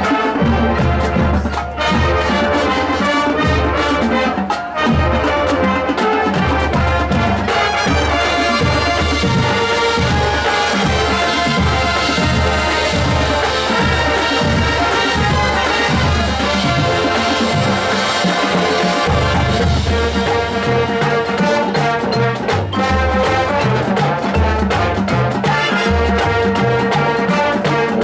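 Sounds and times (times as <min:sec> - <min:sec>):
marching band playing: 0:00.0 - 0:28.0.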